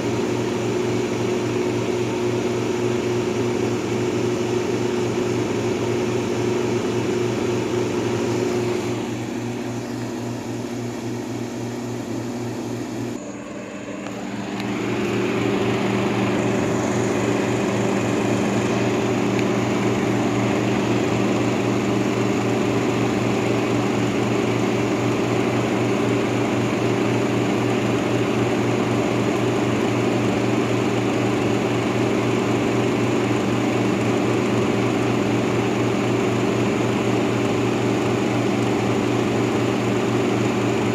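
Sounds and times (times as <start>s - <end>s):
air conditioner compressor hum: 0.0s - 33.0s
fan blowing air: 0.0s - 40.9s.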